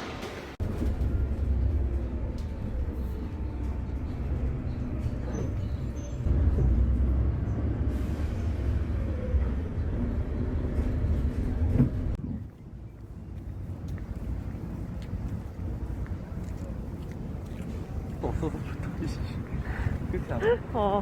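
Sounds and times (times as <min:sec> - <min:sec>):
vehicle rumble: 0:00.5 - 0:21.0.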